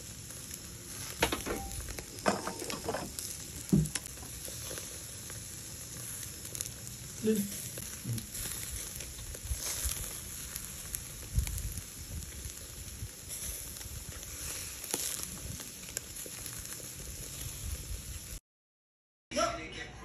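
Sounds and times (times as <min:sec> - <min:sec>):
sharp pops and crackles: 0:00.0 - 0:18.0
meat sizzling over charcoal: 0:00.0 - 0:18.4.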